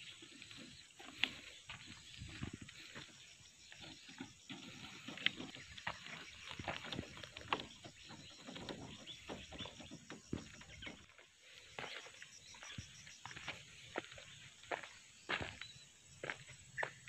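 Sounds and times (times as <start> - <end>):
footsteps on dry leaves and gravel: 0.0 - 17.0.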